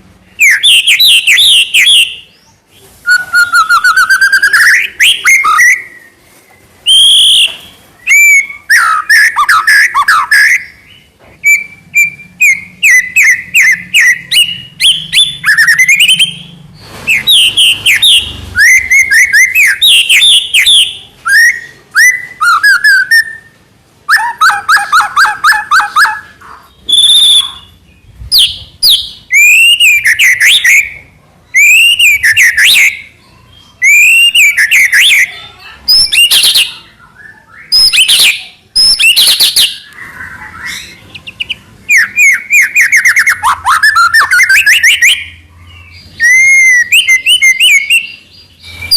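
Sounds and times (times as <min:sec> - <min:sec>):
songbird whistling and trilling: 0:00.3 - 0:06.2, 0:06.8 - 0:16.5, 0:17.1 - 0:48.9.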